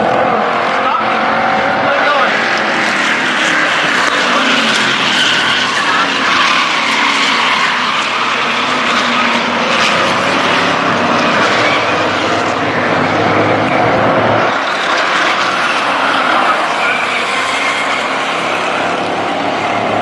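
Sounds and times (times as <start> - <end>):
racing truck engines passing: 0.0 - 20.0.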